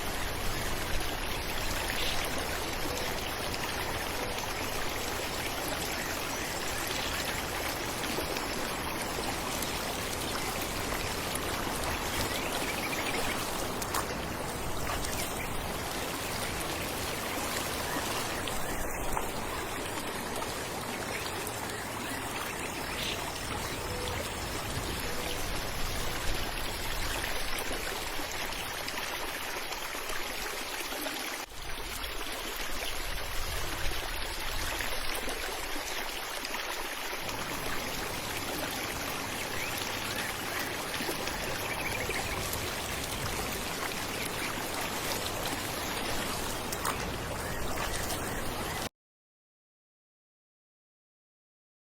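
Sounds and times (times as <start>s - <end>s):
falling water rushing: 0.0s - 48.9s.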